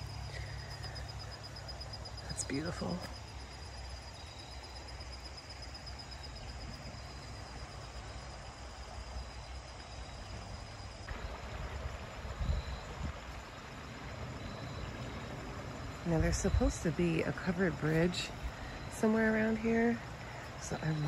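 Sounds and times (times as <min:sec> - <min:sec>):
creek trickling over rocks: 0:00.0 - 0:21.0
insect trill: 0:00.0 - 0:21.0.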